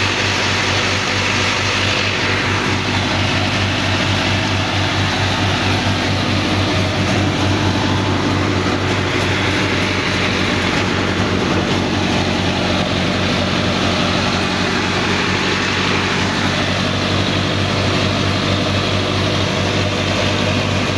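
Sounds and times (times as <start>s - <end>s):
mulcher rotor rushing clatter: 0.0s - 20.9s
tractor diesel engine running: 0.0s - 20.9s.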